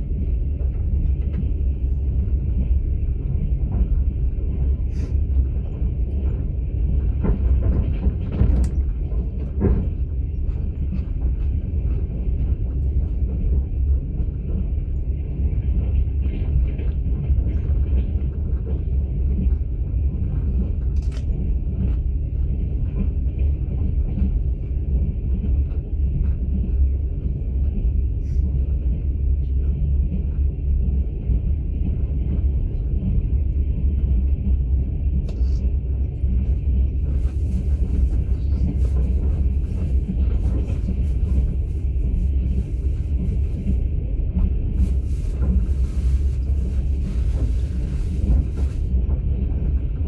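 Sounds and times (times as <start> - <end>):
train rumbling in motion: 0.0 - 50.0.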